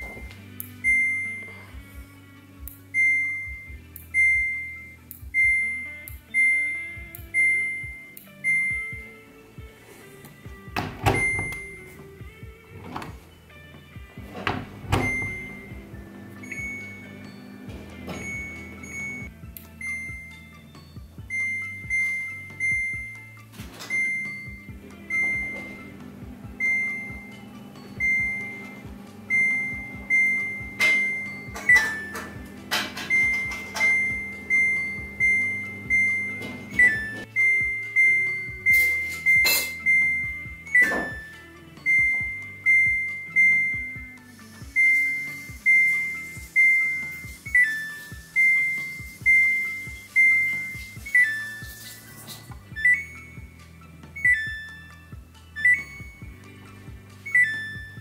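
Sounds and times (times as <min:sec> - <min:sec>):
washing machine panel beeping: 0:00.0 - 0:01.6, 0:02.8 - 0:09.3, 0:10.3 - 0:58.0
music with steady beat: 0:00.0 - 0:58.0.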